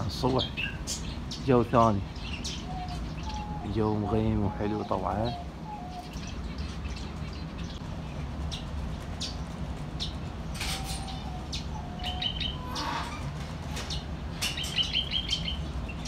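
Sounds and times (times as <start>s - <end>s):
caged birds chirping: 0.0s - 16.0s
steady low rumble: 0.0s - 16.0s.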